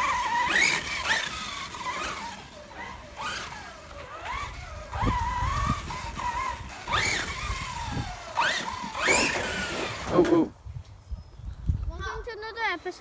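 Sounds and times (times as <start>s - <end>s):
electric motor whining: 0.0s - 10.5s
low rumble of tyres or wind: 0.0s - 12.3s.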